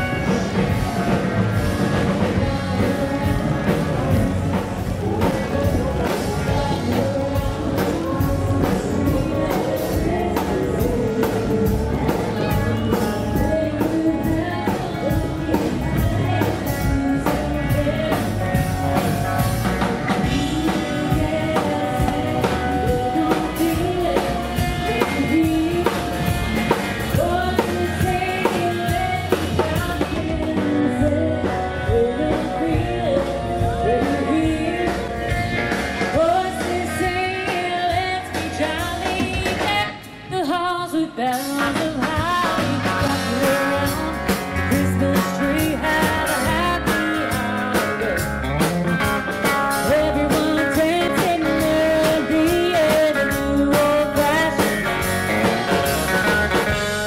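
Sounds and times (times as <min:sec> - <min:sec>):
drum kit beat: 0:00.0 - 0:40.6, 0:41.4 - 0:57.0
guitar: 0:00.0 - 0:57.0
person singing: 0:00.0 - 0:57.0.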